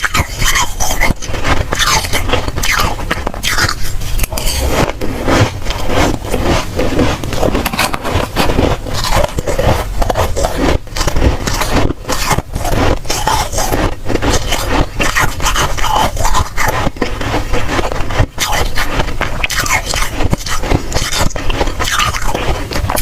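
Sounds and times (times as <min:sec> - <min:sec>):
chewing crunchy frost: 0:00.0 - 0:23.0.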